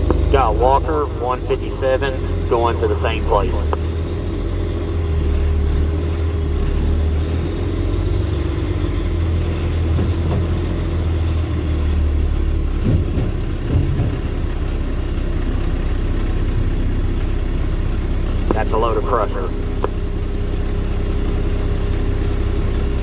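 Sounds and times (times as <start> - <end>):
diesel truck engine droning: 0.0 - 23.0.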